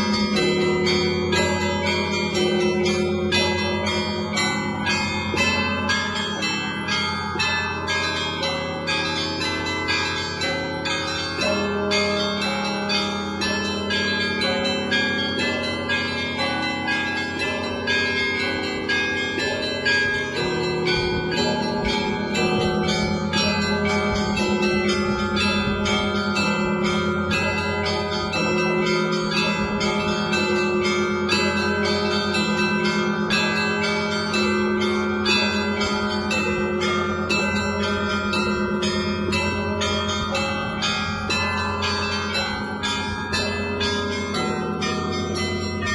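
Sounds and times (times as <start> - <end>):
large bells ringing deeply: 0.0 - 45.9
small bells ringing rapidly: 0.0 - 45.9.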